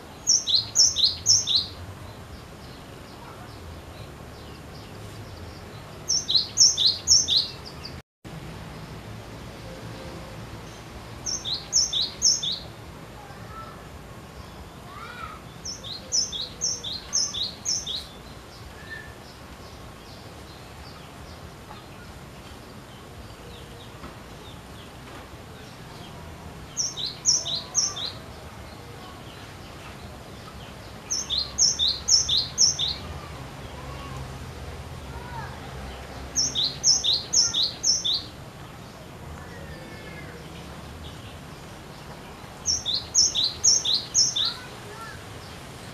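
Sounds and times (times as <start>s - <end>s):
faint background noise: 0.0s - 45.9s.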